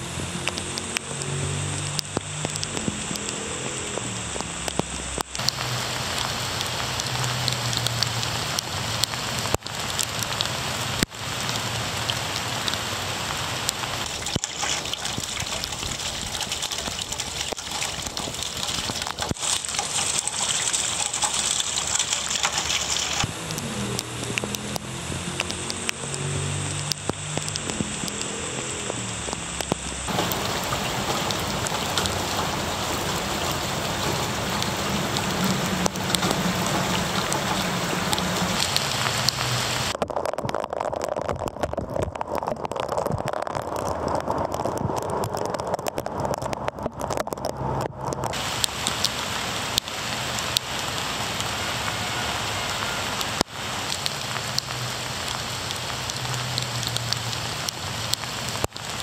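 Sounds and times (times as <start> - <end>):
rain pattering on pavement and leaves: 0.0 - 59.0.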